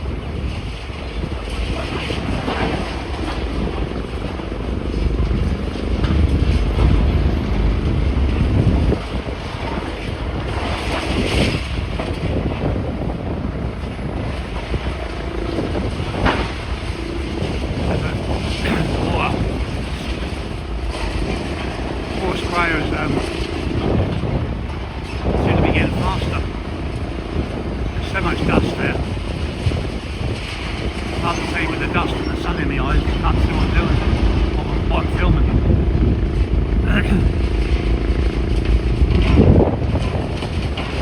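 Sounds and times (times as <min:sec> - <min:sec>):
low engine rumble: 0:00.0 - 0:41.0
wind buffeting microphone: 0:00.0 - 0:41.0.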